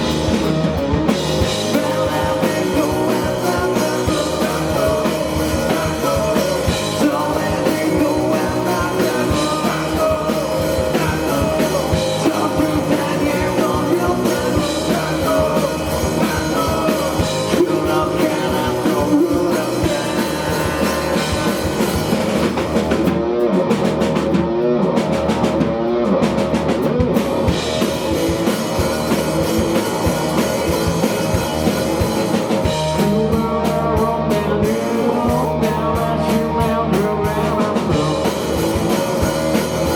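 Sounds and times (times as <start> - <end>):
bass guitar: 0.0 - 39.9
drum kit: 0.0 - 39.9
electric guitar: 0.0 - 39.9
person singing: 1.4 - 22.4, 28.9 - 39.9.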